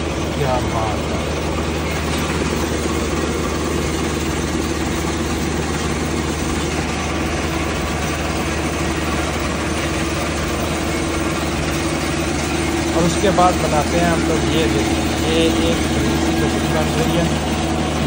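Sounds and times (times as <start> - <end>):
diesel engine humming: 0.0 - 18.0
screen and conveyors rattling: 0.0 - 18.0.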